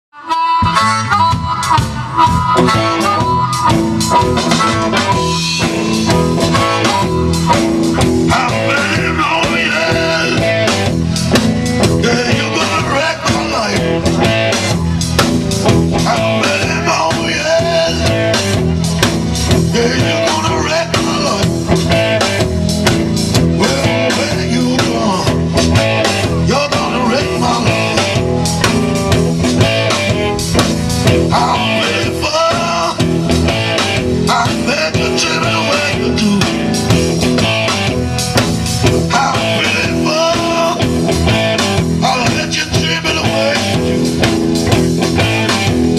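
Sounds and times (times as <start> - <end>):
guitar: 0.1 - 45.9
drum kit beat: 0.2 - 45.9.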